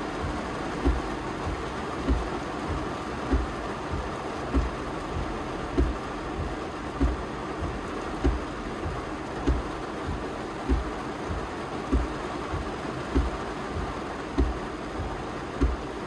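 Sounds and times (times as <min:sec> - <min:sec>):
rain hissing on windshield: 0:00.0 - 0:16.0
windshield wipers thumping: 0:00.0 - 0:16.0.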